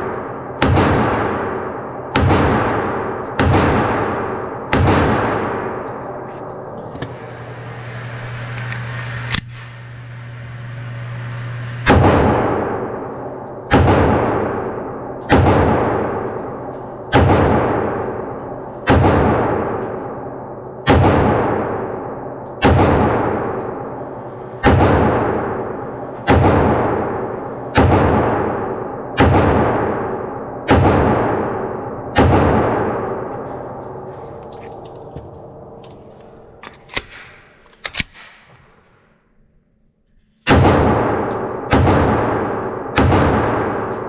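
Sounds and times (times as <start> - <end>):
low hum: 0.0 - 44.0
pistol shots echoing indoors: 0.0 - 44.0.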